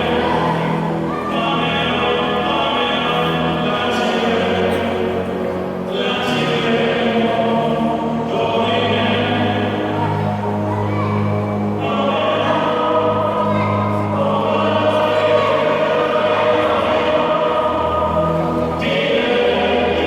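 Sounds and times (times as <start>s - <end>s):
choir singing sustained chords: 0.0s - 20.0s.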